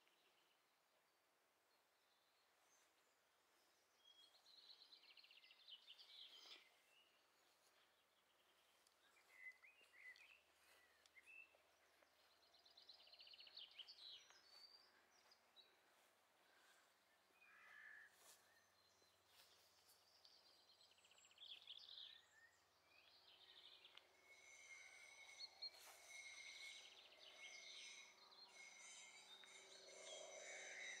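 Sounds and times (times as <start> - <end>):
small birds chirping and trilling: 1.7 - 31.0.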